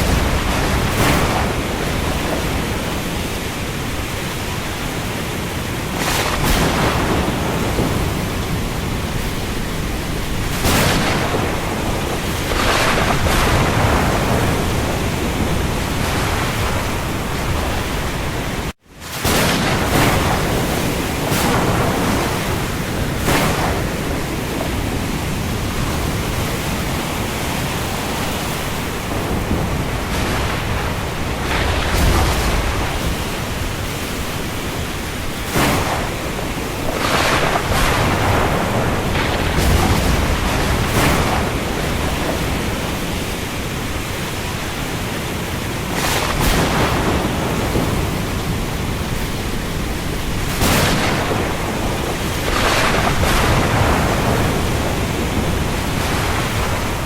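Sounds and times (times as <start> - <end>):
heavy rain over the sea: 0.0 - 57.0
surf: 0.0 - 57.0
wind gusts: 0.0 - 57.0.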